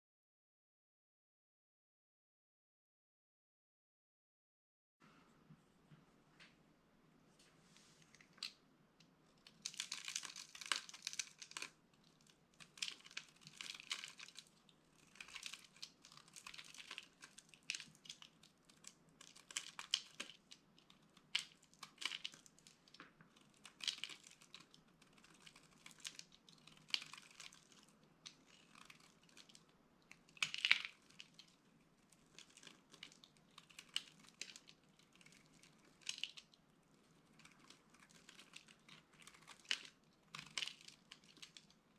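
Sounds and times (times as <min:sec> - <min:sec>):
dry soap crunching: 0:08.0 - 0:41.9.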